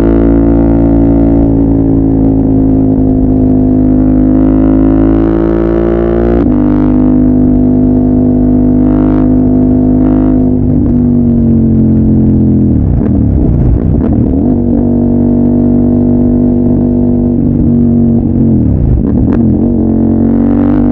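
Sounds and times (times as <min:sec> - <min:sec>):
motorcycle engine deep drone: 0:00.0 - 0:20.9.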